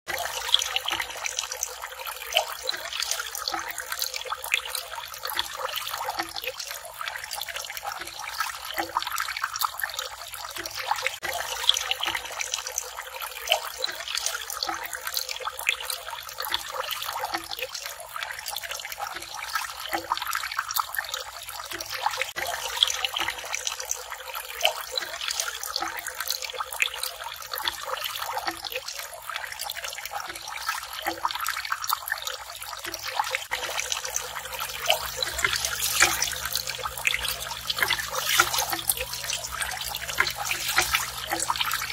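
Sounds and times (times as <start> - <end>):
water splashing into pond: 0.1 - 41.9.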